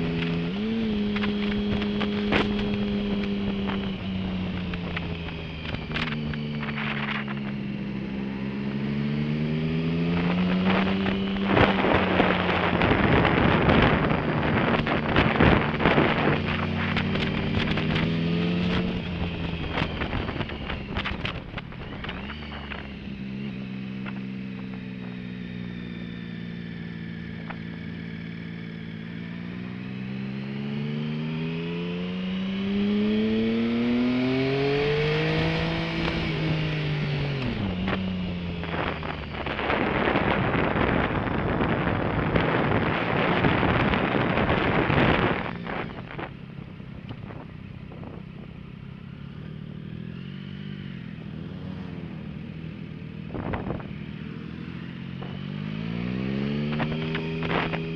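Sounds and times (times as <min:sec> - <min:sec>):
wind rush on microphone: 0:00.0 - 0:08.4, 0:09.6 - 0:25.9, 0:32.3 - 0:57.9
motorcycle engine accelerating: 0:00.0 - 0:57.9.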